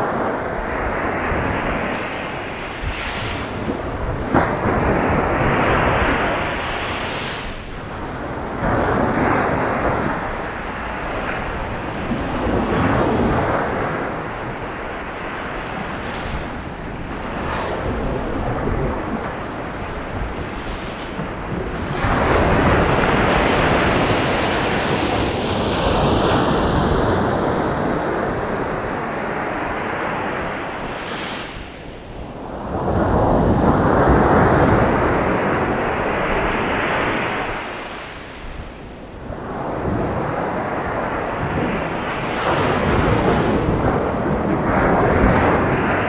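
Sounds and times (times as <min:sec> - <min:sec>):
sea waves breaking on beach: 0:00.0 - 0:46.0.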